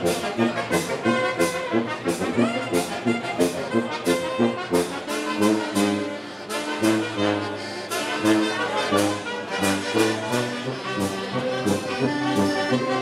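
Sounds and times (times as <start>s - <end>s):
trombones and trumpets: 0.0s - 13.0s.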